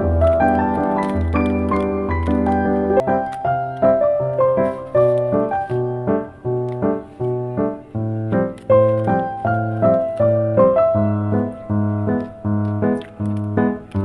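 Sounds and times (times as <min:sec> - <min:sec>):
bouncy electric piano tune: 0:00.0 - 0:14.0.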